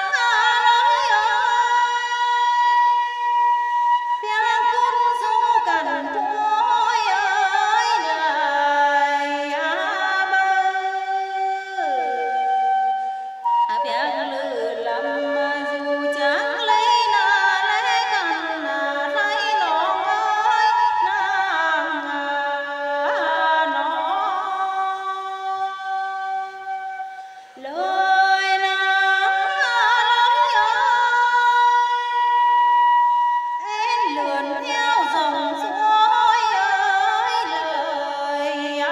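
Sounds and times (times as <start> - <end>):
woman singing folk song: 0.0 - 3.0, 4.2 - 12.6, 13.5 - 32.2, 33.6 - 38.9.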